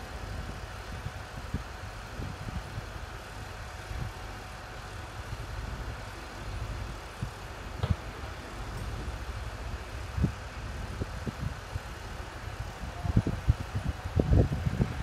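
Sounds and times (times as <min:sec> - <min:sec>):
construction machinery rumble: 0:00.0 - 0:15.0
wind: 0:00.0 - 0:15.0.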